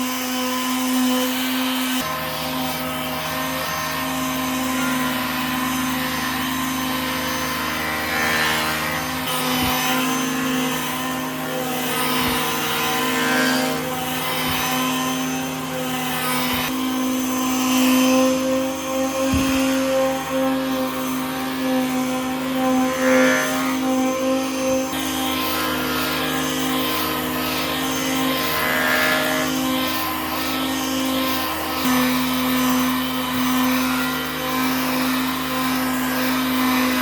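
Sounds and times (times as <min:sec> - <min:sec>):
power tool motor running: 0:00.0 - 0:37.0.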